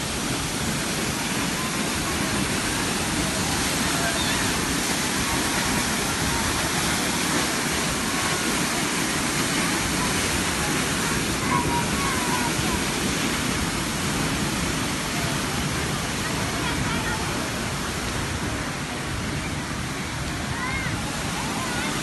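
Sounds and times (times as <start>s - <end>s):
waterfall rushing: 0.0s - 22.0s
faint voices: 0.4s - 22.0s.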